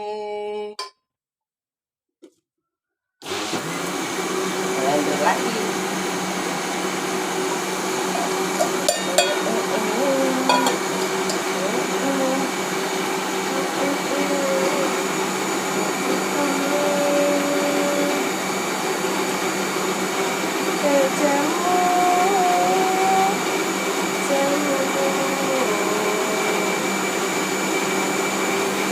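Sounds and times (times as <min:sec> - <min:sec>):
electric blender running: 0:03.2 - 0:28.9.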